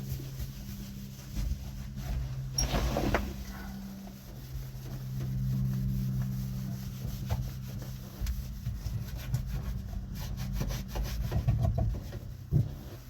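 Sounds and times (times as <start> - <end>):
cloth scrubbing surfaces: 0.0 - 11.4
steady low hum: 0.0 - 13.0.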